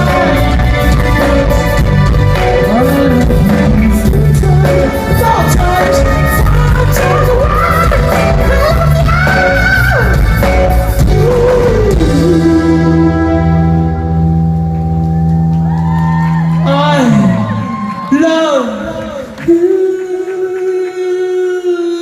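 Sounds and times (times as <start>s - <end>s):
drums: 0.0s - 18.0s
rock band playing live: 0.0s - 18.2s.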